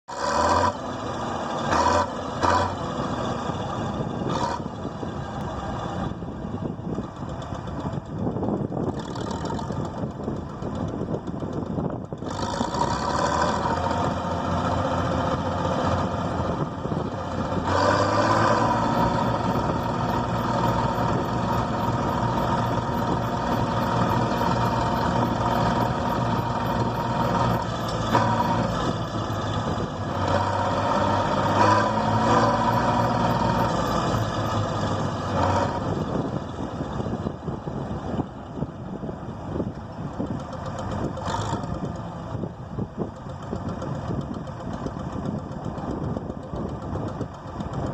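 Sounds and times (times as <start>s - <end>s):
diesel engine revving: 0.0s - 47.9s.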